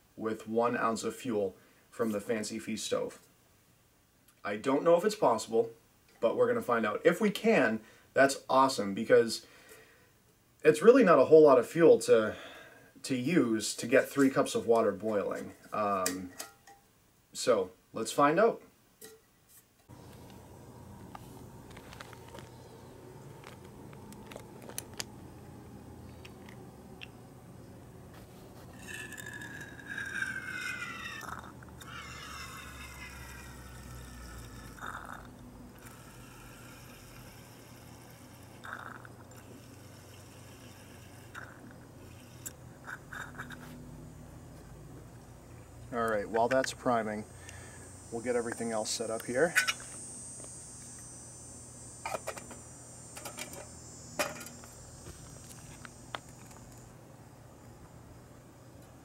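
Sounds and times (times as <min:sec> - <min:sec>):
faint high hiss: 0:00.0 - 0:59.0.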